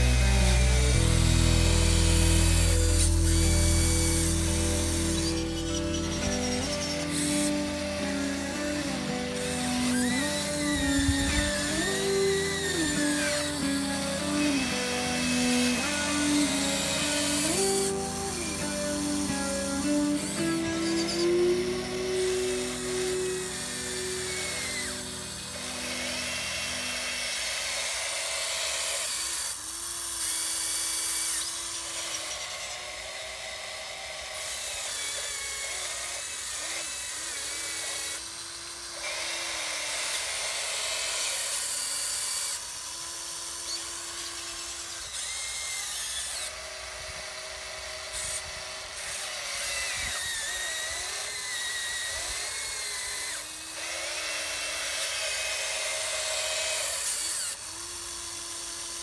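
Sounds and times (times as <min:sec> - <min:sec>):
electric gear motors whining: 0:00.0 - 0:59.0.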